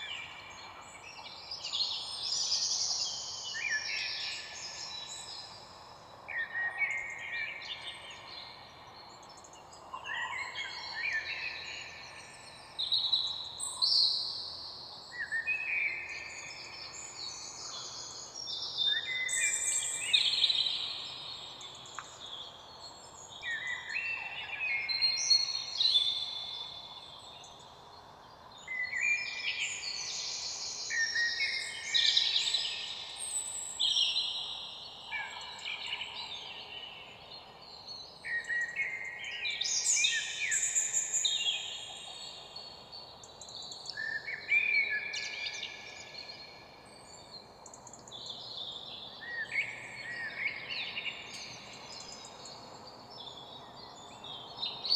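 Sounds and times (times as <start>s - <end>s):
faint outdoor hiss: 0.0s - 54.9s
songbirds singing: 0.0s - 54.9s.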